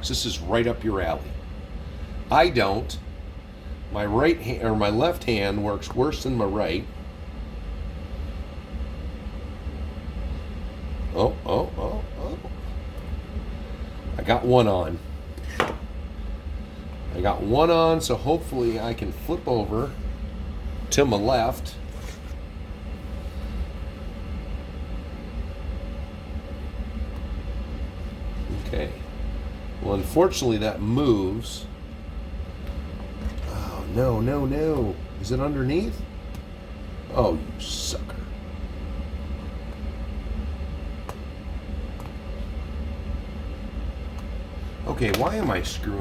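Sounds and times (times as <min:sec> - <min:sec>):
heater low rumble: 0:00.0 - 0:46.0.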